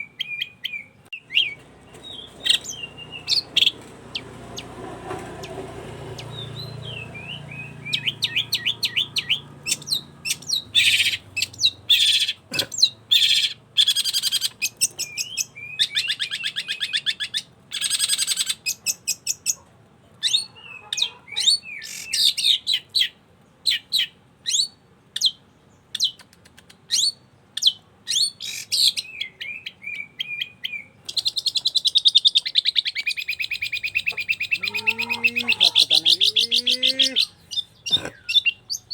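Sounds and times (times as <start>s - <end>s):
bird singing chattering trills: 0.0s - 19.6s, 26.9s - 38.9s.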